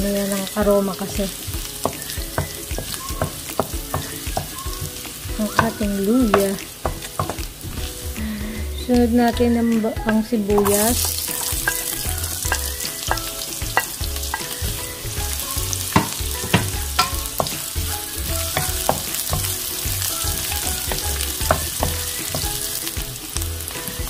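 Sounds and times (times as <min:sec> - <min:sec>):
onion sizzling in hot oil: 0:00.0 - 0:24.0.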